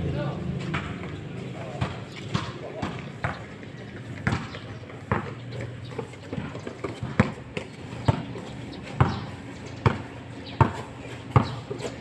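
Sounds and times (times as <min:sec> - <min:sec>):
basketball bouncing on concrete: 0:00.5 - 0:12.0.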